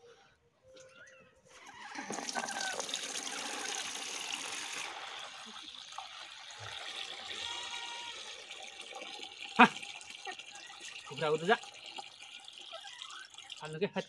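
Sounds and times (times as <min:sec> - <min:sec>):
liquid pouring into a bucket: 0:01.5 - 0:14.0.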